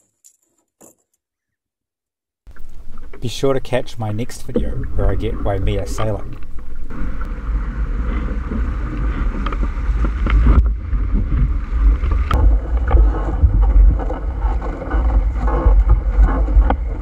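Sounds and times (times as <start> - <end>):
water rushing along hulls: 2.5 - 17.0
wind buffeting microphone: 2.6 - 17.0.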